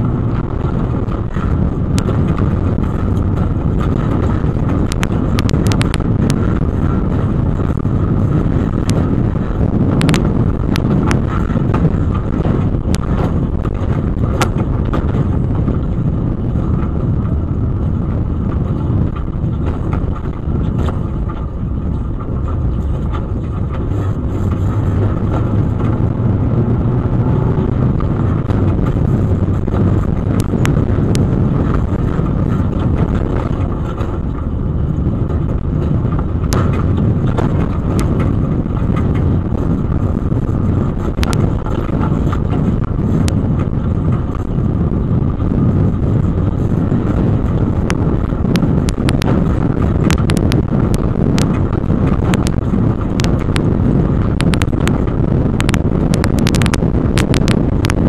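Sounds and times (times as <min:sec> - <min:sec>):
engine running under load: 0:00.0 - 0:58.0
rumble of tyres and suspension: 0:00.0 - 0:58.0.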